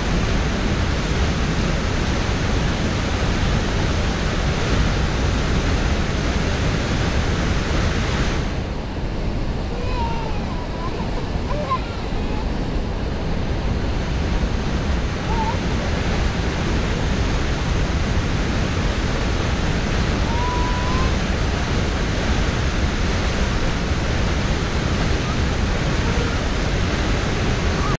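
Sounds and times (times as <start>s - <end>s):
roar of waterfall: 0.0s - 28.0s.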